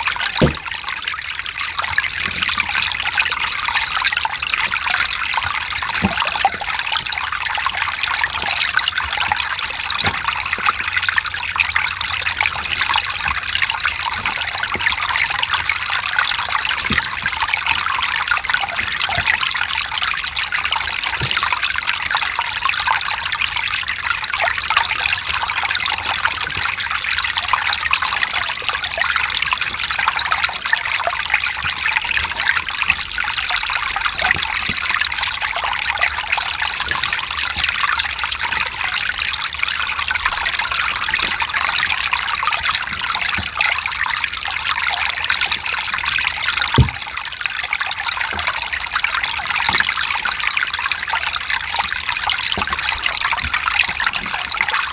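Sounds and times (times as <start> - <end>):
stream splashing over rocks: 0.0 - 54.9
water drips and plinks: 0.0 - 54.9.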